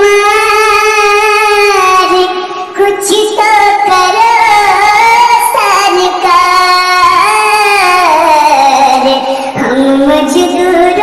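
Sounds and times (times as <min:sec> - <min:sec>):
high-pitched voice singing held notes: 0:00.0 - 0:11.0.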